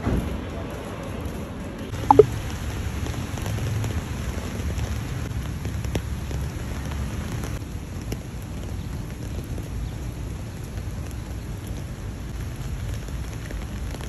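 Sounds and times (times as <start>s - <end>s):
steady rain: 0.0s - 14.0s
raindrop impacts: 1.9s - 14.0s.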